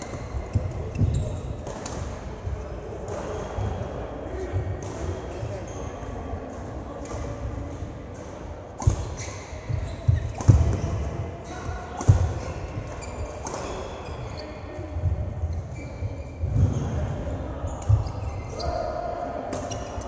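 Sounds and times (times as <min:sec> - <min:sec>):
ball thuds in echoing hall: 0:00.0 - 0:20.0.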